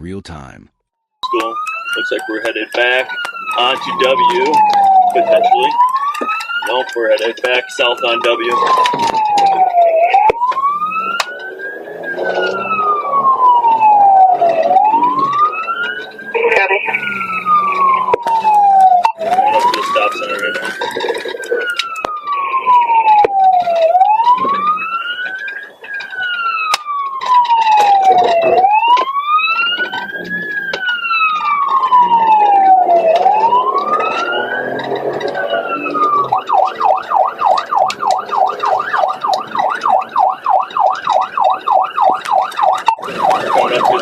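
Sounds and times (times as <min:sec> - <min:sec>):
police siren wailing and yelping: 0:01.2 - 0:44.0.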